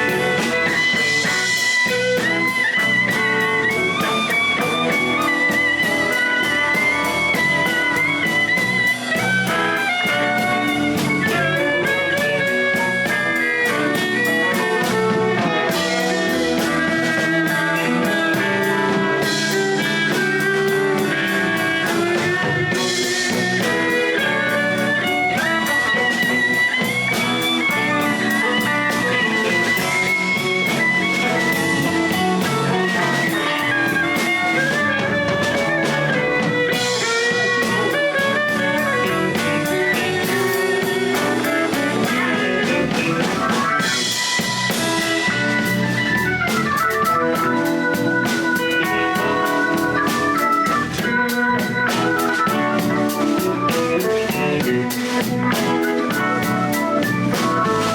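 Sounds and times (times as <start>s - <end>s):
bass guitar: 0.0s - 57.9s
blues guitar lead: 0.0s - 57.9s
drum kit: 0.0s - 57.9s.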